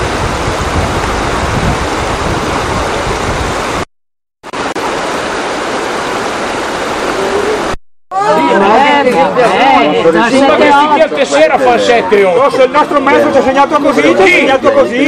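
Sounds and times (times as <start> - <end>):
river running over stones: 0.0 - 15.0.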